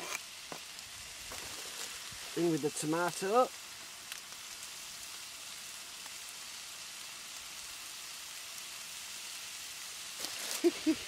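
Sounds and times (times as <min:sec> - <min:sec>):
chicken and vegetables sizzling: 0:00.0 - 0:11.0.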